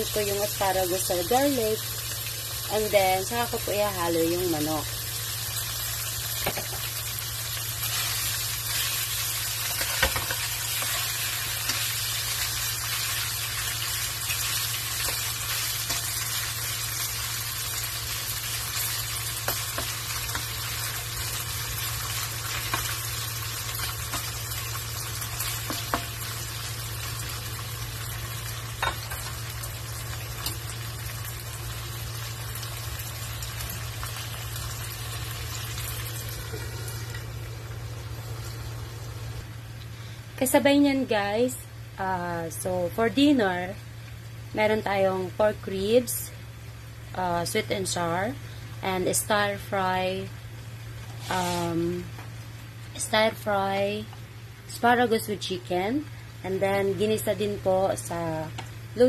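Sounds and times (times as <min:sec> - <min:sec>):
chicken sizzling in a pan: 0:00.0 - 0:40.4, 0:41.0 - 0:59.0.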